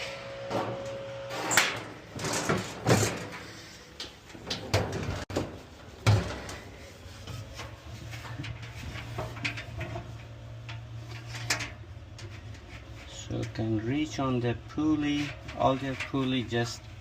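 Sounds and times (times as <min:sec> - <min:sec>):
dryer drum being handled: 0:00.4 - 0:17.0.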